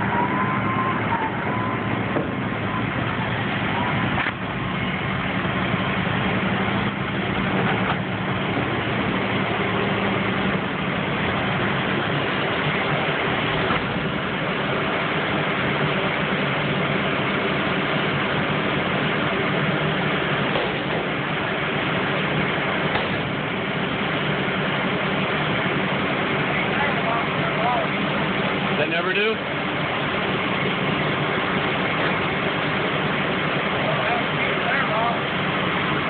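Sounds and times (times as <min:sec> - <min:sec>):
large engine idling: 0:00.0 - 0:36.0.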